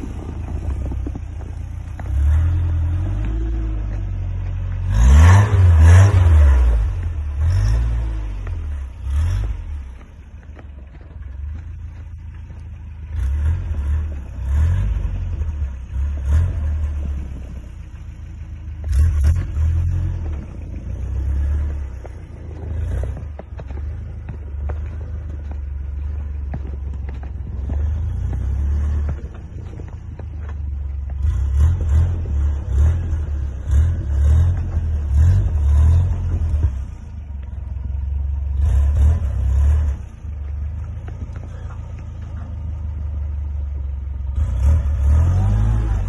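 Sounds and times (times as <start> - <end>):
snow crunching: 0.0 - 46.0
truck engine revving: 0.0 - 46.0.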